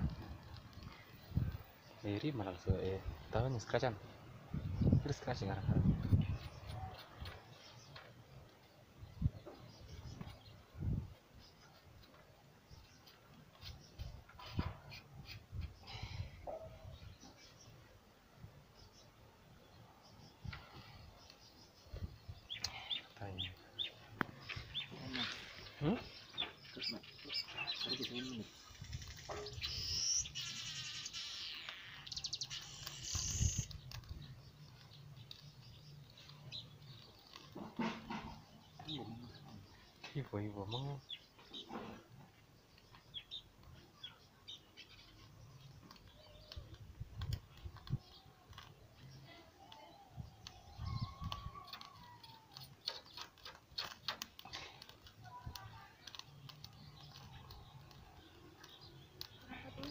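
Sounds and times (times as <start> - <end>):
charcoal fire crackling: 0.0 - 16.5, 20.0 - 59.9
birds chirping and trilling: 0.0 - 59.9.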